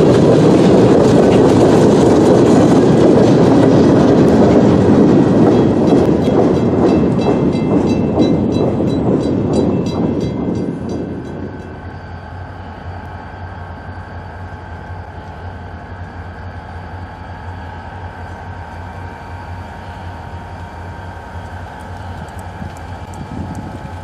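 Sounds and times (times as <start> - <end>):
diesel locomotive idling hum: 0.0 - 24.0
train wheels clicking over rails: 0.0 - 24.0.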